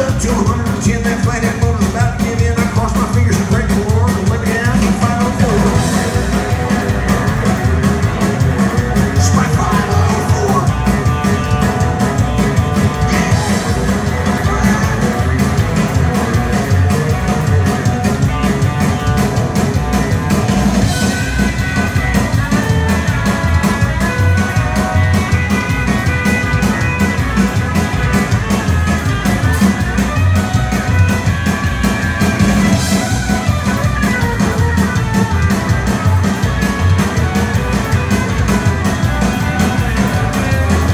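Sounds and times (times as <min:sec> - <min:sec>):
drums: 0:00.0 - 0:40.9
electric guitar lead lines: 0:00.0 - 0:40.9
upright bass: 0:00.0 - 0:40.9.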